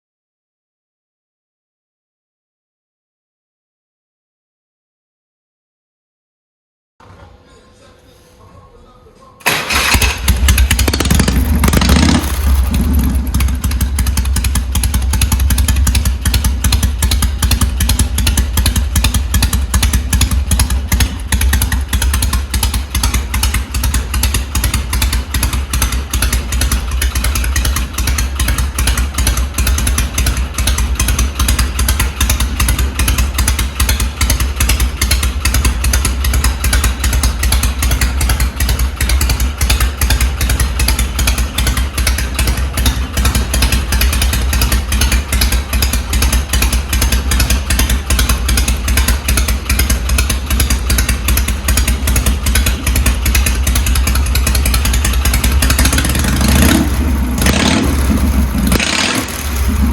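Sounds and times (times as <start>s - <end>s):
motorcycle engine revving and idling: 9.4s - 59.9s.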